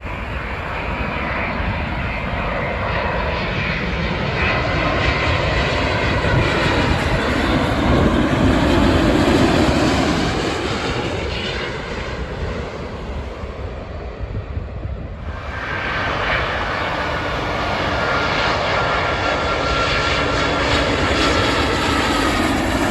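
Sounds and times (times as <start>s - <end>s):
airliner jet engines rushing: 0.0s - 22.9s.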